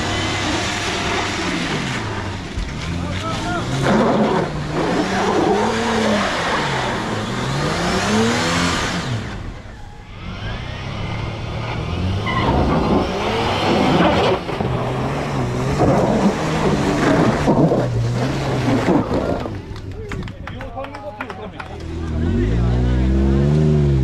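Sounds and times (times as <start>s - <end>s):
engine revving under load: 0.0s - 20.2s, 21.4s - 24.0s.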